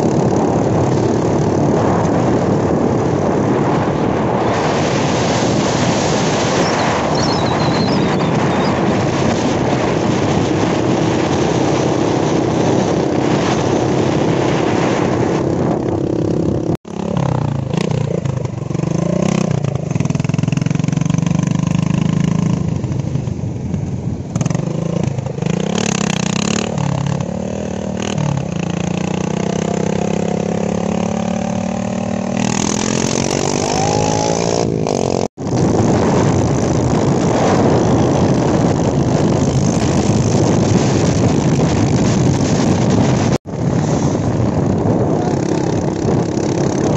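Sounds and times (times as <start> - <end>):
dirt bike engine running: 0.0 - 46.9
wind rush on microphone: 0.0 - 46.9.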